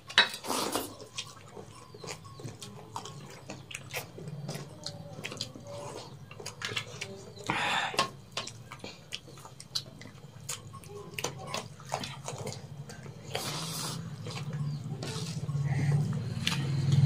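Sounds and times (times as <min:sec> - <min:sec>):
low steady hum: 0:00.0 - 0:17.0
chewing clicks and lip smacks: 0:00.9 - 0:17.0.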